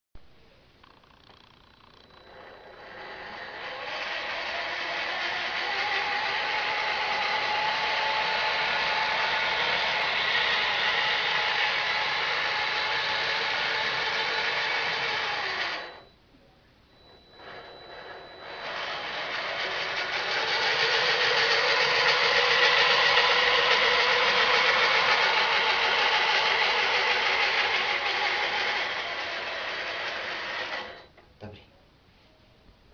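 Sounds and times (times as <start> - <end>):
model excavator gear whine: 0.8 - 31.2.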